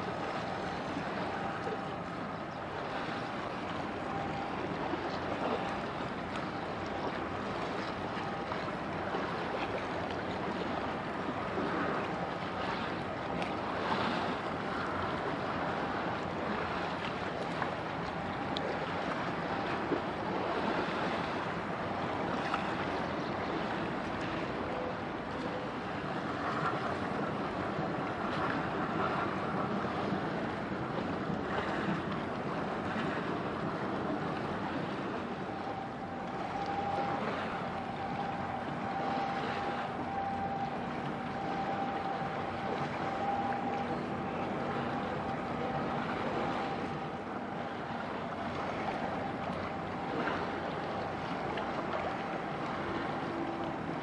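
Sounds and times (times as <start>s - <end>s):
faint steady hums: 0.0s - 54.0s.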